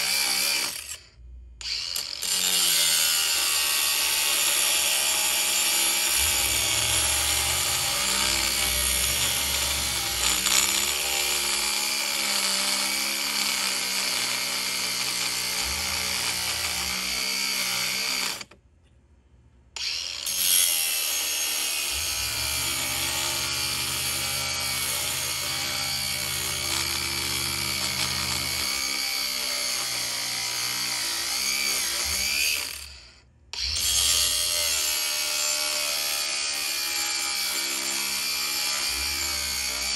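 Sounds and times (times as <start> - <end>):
power tool motor whining: 0.0 - 18.6, 19.8 - 39.9.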